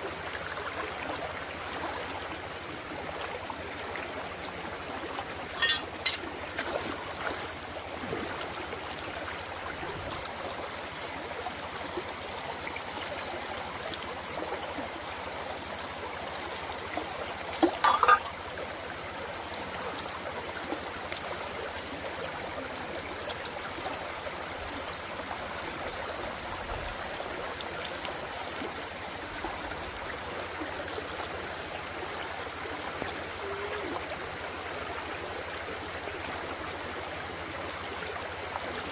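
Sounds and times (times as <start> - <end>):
running stream water: 0.0 - 38.9.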